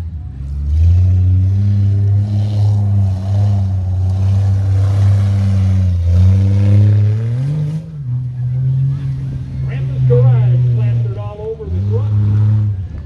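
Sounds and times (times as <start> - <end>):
engine at high revs: 0.0 - 13.0.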